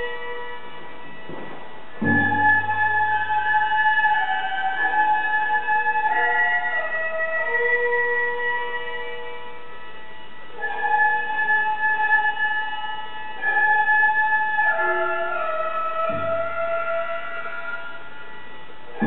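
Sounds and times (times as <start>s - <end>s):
reedy wind instrument held notes: 0.0s - 19.0s.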